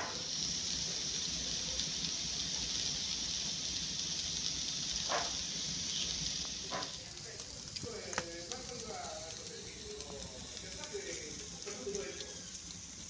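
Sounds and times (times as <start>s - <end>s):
firewood burning hiss: 0.0s - 13.0s.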